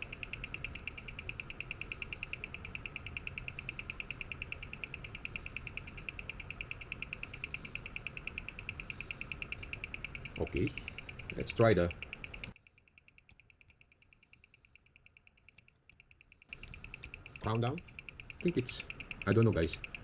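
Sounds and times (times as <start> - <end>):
watch ticking: 0.0 - 20.0.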